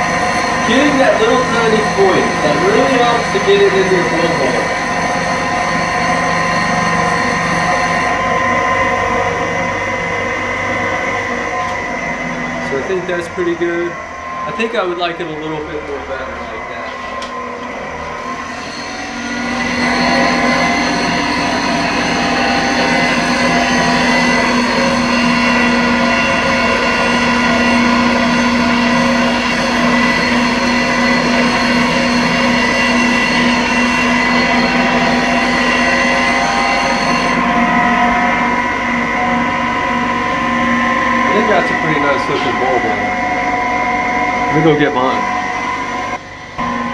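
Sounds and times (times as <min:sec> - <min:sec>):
sanding machine whine and grinding: 0:00.0 - 0:46.9.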